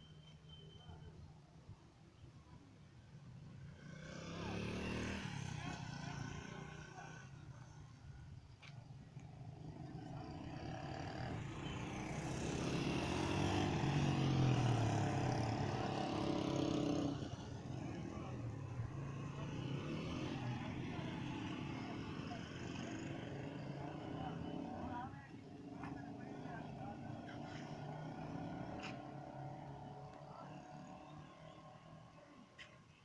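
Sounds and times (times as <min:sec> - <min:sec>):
faint engine sound: 0:03.2 - 0:33.0
vehicle engine approaching: 0:03.6 - 0:07.9, 0:09.2 - 0:32.8.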